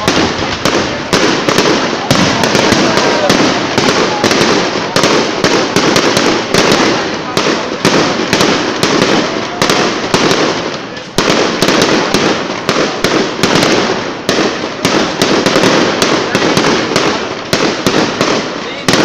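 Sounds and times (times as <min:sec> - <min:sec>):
fireworks bursting with sharp bangs: 0:00.0 - 0:19.0.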